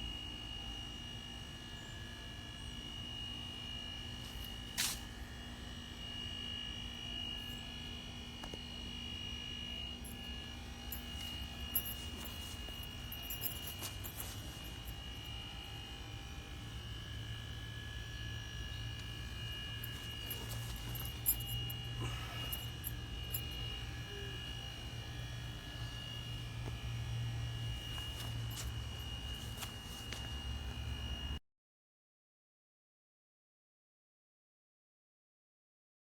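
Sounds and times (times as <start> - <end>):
faint high whine: 0.0 - 31.4
low electrical hum: 0.0 - 31.4.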